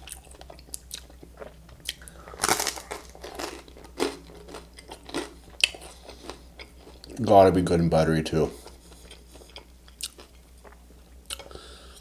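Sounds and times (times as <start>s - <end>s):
crunching and chewing toast: 0.0s - 7.2s, 8.6s - 11.6s.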